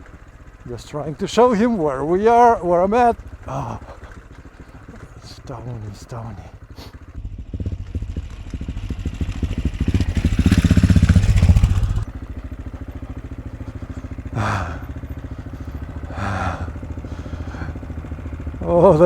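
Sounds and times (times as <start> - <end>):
motorcycle engine under throttle: 0.0 - 19.0.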